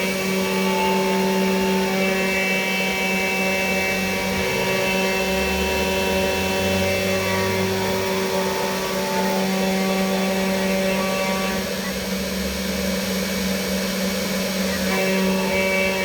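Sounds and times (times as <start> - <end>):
router spindle motor whine: 0.0 - 16.0
stepper motor tones: 0.0 - 16.0.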